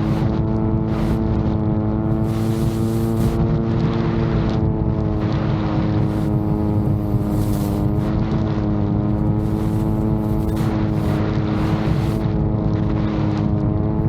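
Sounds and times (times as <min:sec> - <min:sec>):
drone propellers buzzing: 0:00.0 - 0:14.0
wind rumbling on microphone: 0:00.0 - 0:14.0.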